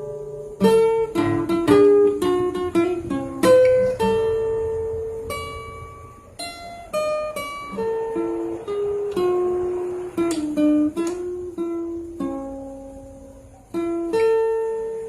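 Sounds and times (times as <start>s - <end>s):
acoustic guitar picking melody: 0.0s - 15.0s.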